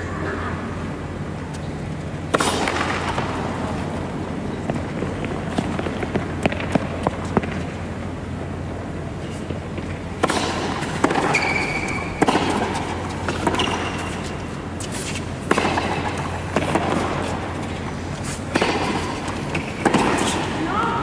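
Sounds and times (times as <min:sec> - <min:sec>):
racket hitting tennis ball: 0:02.2 - 0:07.8, 0:09.4 - 0:20.7.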